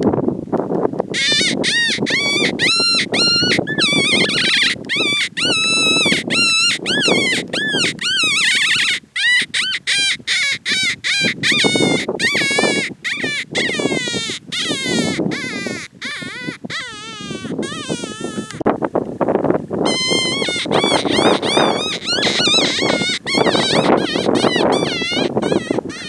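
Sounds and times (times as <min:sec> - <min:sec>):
predator call whining yelps: 0:01.2 - 0:18.6, 0:19.9 - 0:26.0.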